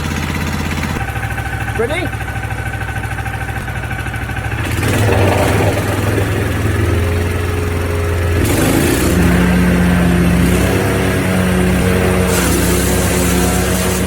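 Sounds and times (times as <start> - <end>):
wood chipper engine running: 0.0 - 14.0.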